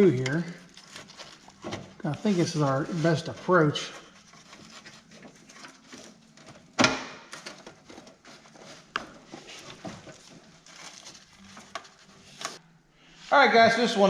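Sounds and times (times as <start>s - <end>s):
parts scraping: 0.0s - 12.6s.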